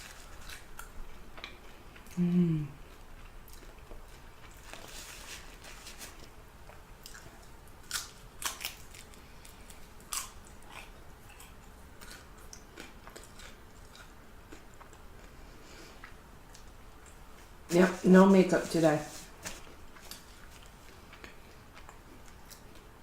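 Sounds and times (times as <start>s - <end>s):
person chewing food: 0.0s - 17.6s, 19.6s - 23.0s.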